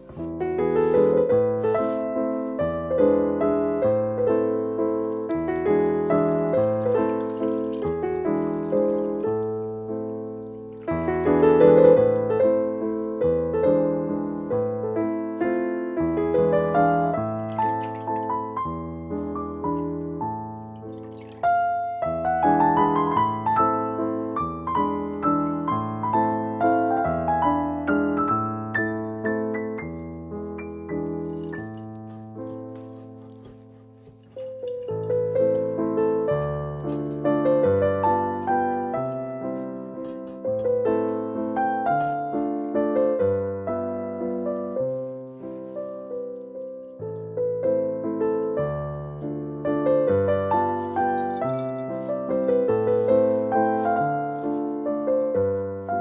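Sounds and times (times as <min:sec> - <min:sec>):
gentle piano melody: 0:00.0 - 0:56.0.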